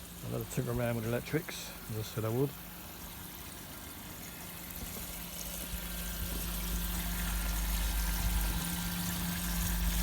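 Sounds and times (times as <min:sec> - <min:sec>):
low electrical hum: 0:00.0 - 0:10.0
water flowing and splashing: 0:00.0 - 0:10.0.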